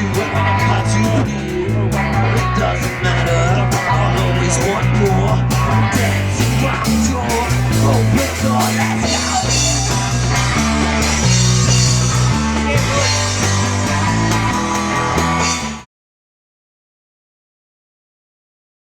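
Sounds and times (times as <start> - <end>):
rock music: 0.0 - 15.9.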